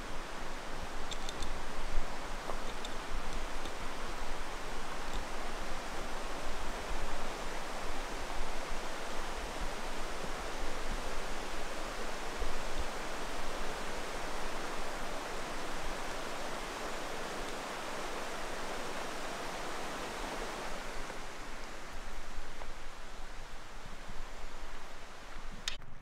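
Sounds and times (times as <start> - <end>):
creek water rushing over rocks: 0.0 - 25.6.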